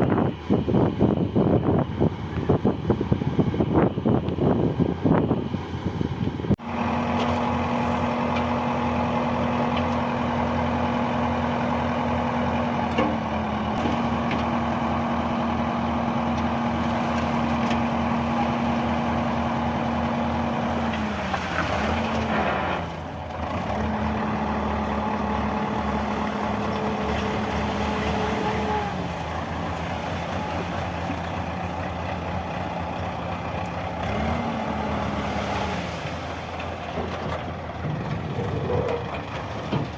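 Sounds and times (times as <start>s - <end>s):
diesel engine at high revs: 0.0s - 39.9s.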